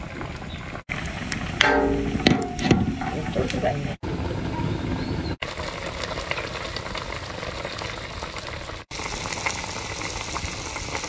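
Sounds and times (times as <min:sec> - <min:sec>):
broth boiling in a wok: 0:00.0 - 0:04.3, 0:05.3 - 0:11.0.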